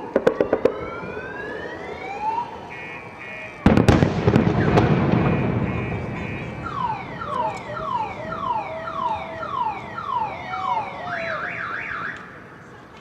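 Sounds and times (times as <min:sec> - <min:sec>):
car alarm whooping: 0:00.0 - 0:12.3.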